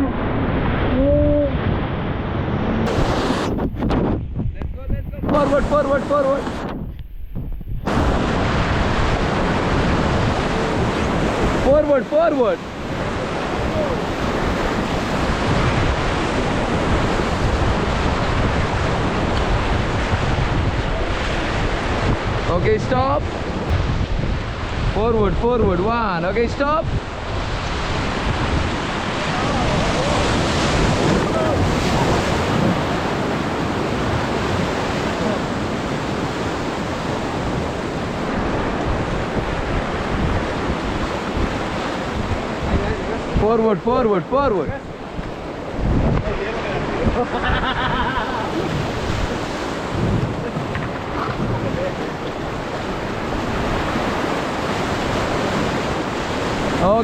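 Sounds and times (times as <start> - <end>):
whitewater roaring: 0.0 - 3.7, 7.9 - 57.0
wind buffeting microphone: 0.0 - 57.0.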